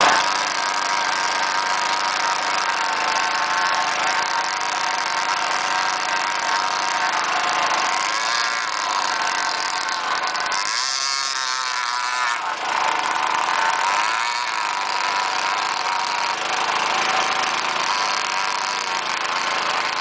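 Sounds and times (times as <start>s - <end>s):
model boat motor running: 0.0s - 20.0s.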